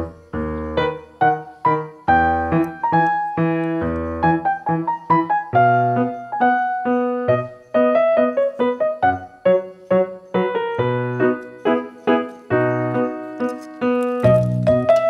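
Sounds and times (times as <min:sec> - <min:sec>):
children's tune on keyboard: 0:00.0 - 0:15.0.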